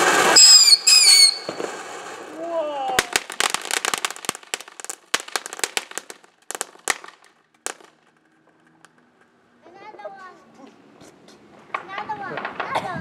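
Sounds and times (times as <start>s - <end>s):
firework fountain crackling pops: 0.0s - 9.4s, 11.4s - 13.0s.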